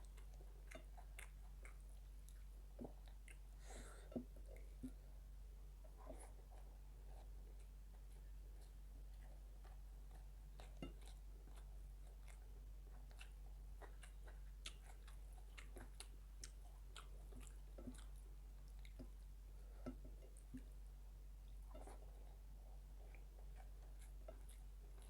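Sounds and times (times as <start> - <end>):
person chewing: 0.0 - 5.1, 5.9 - 20.8, 21.5 - 25.0.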